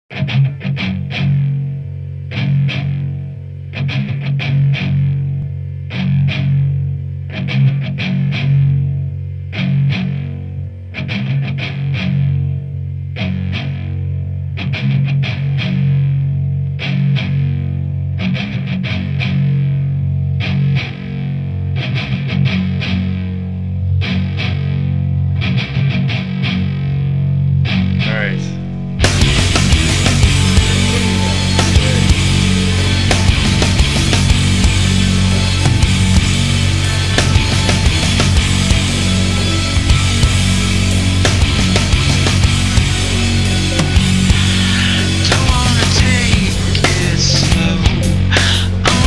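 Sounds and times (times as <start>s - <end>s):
distorted electric guitar rock: 0.0s - 49.0s.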